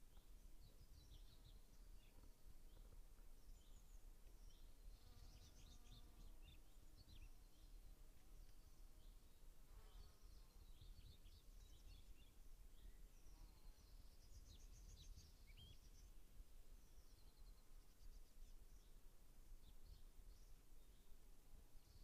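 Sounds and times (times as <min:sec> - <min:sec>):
small birds chirping: 0:00.0 - 0:21.2.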